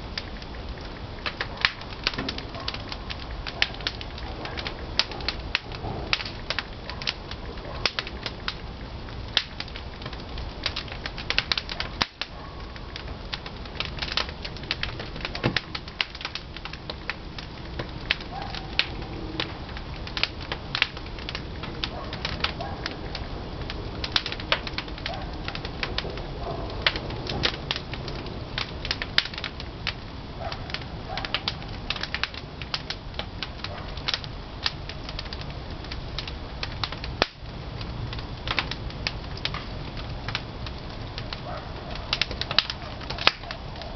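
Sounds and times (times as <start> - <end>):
firewood crackling and popping: 0.0 - 43.9
low rumble of fire: 0.0 - 43.9.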